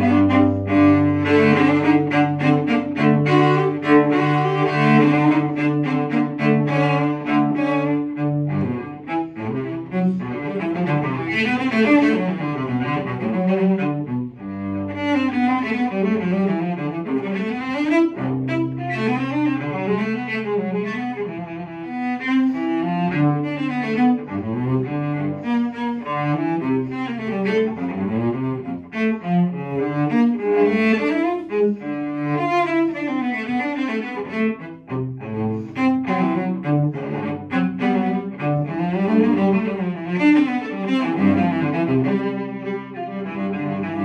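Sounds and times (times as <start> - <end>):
bowed cello: 0.0 - 44.0.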